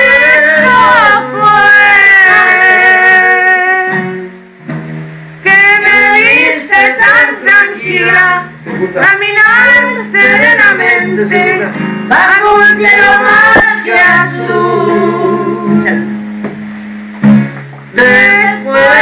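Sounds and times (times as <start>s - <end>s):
woman singing: 0.0s - 4.2s, 5.4s - 15.8s, 17.9s - 19.0s
acoustic guitar: 0.0s - 19.0s.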